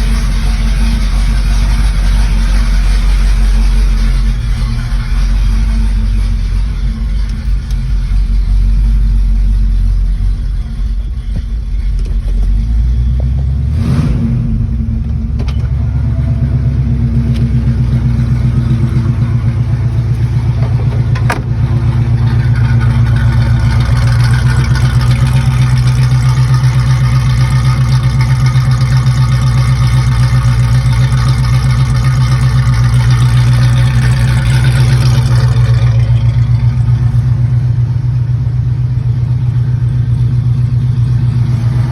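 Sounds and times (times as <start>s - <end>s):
car engine pulsing exhaust: 0.0s - 41.9s.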